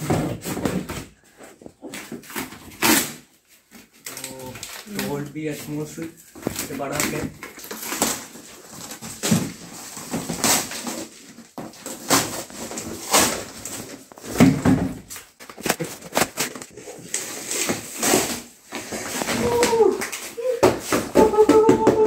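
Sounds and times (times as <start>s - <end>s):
cardboard box tearing: 1.8s - 5.2s, 6.5s - 21.8s.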